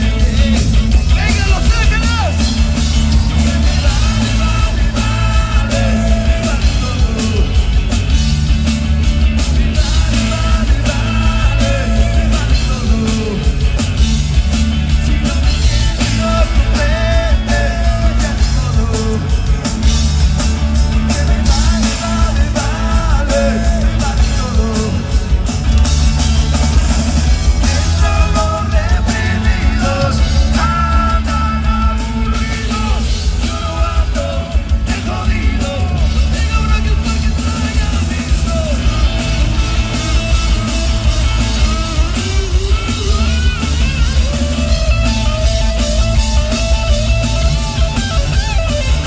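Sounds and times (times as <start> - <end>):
drum kit beat: 0.0 - 49.0
live rock band playing: 0.0 - 49.0.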